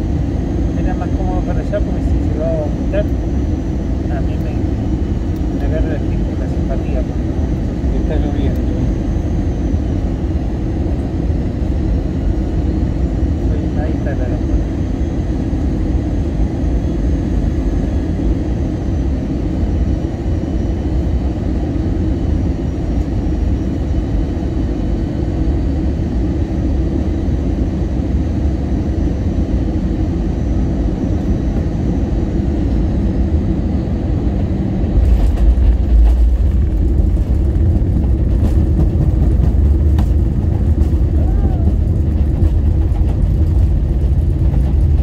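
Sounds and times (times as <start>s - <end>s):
airliner cabin rumble: 0.0s - 45.0s
faint thin engine whine: 0.0s - 45.0s.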